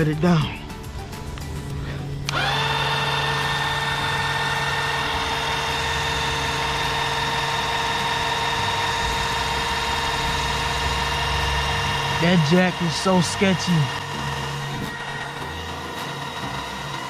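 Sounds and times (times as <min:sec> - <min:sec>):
electric car jack motor whining: 0:02.2 - 0:17.0.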